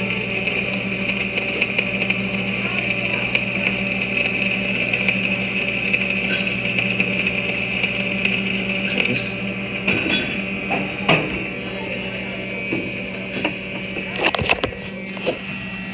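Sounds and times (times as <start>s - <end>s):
arc welding buzz and crackle: 0.0s - 15.9s.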